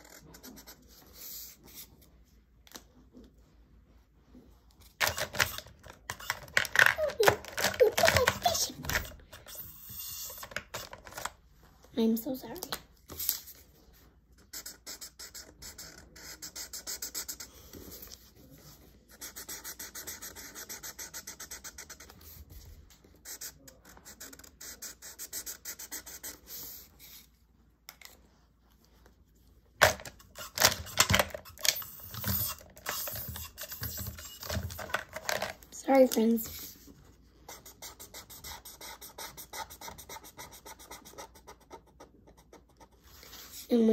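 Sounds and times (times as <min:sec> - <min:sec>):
marker scratching on paper: 0:00.0 - 0:02.1, 0:04.8 - 0:11.3, 0:13.1 - 0:27.4, 0:30.0 - 0:35.0, 0:35.8 - 0:43.9.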